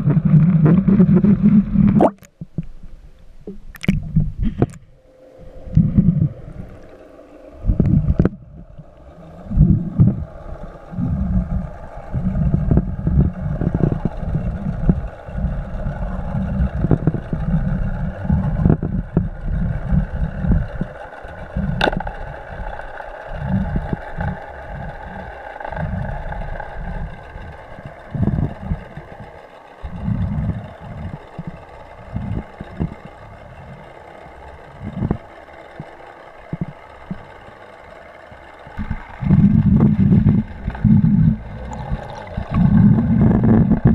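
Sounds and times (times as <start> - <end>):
water churning rumbles: 0.0 - 2.3, 3.5 - 43.9
motorboat engine hum underwater: 0.0 - 43.9.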